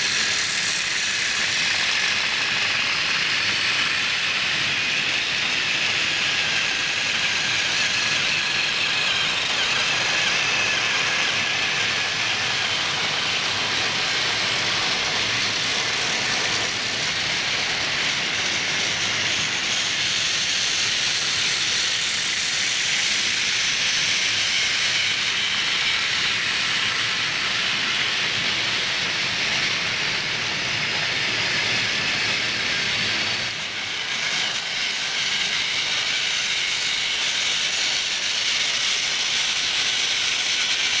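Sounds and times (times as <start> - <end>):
toy train motors whirring: 0.0 - 41.0.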